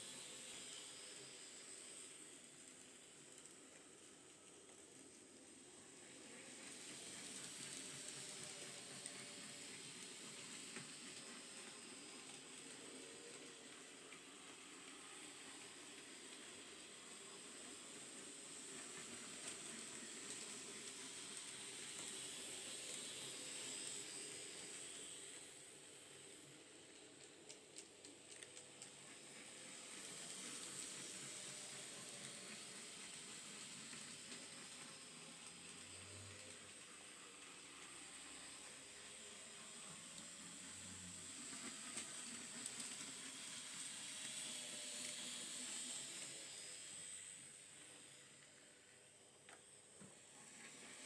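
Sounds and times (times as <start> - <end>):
model locomotive whine: 0.0 - 51.0.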